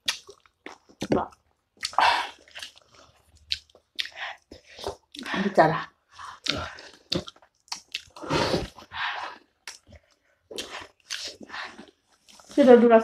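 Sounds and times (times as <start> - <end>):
wet chewing and biting: 0.0 - 5.3, 6.2 - 12.5.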